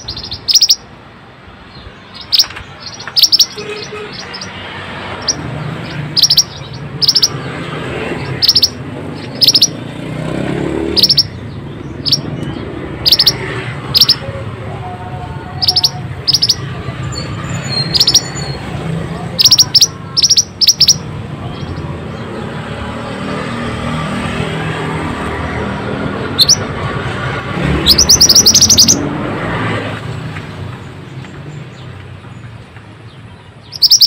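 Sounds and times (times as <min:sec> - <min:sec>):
songbird chirping: 0:00.0 - 0:01.0, 0:01.6 - 0:24.4, 0:25.2 - 0:26.8, 0:27.5 - 0:29.2, 0:30.1 - 0:34.0.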